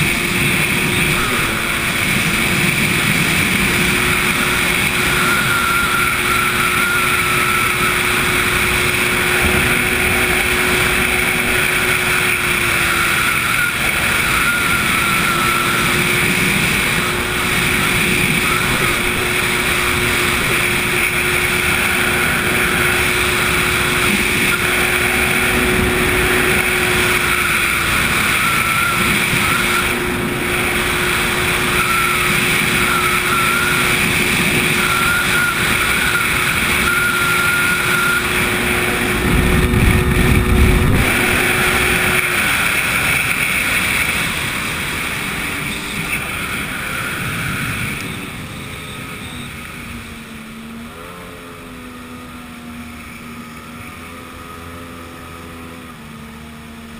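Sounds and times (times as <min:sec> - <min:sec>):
jet ski engine drone: 0:00.0 - 0:56.9
rush of wind and water: 0:00.0 - 0:56.9.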